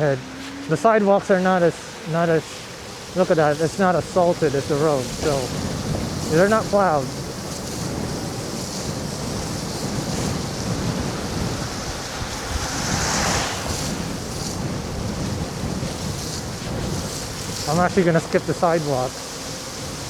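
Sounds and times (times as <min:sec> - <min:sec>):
tyres hissing on wet road: 0:00.0 - 0:20.0
wind rushing over microphone: 0:00.0 - 0:20.0.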